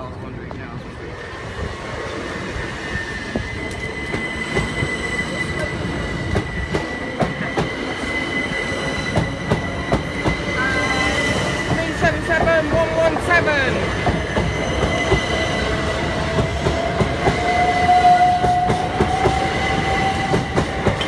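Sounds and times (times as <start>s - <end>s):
train wheels rumbling: 0.0s - 21.0s
electric train whine: 0.9s - 21.0s.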